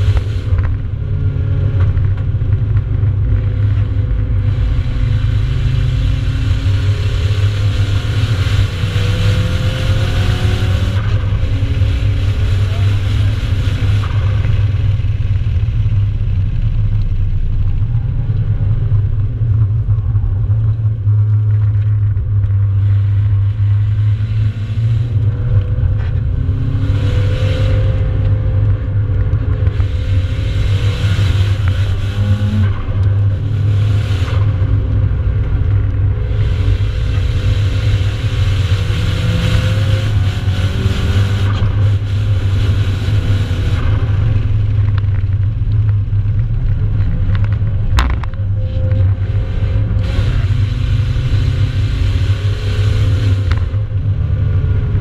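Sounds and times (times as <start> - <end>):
car engine drone under load: 0.0 - 55.0
road and wind noise: 0.0 - 55.0.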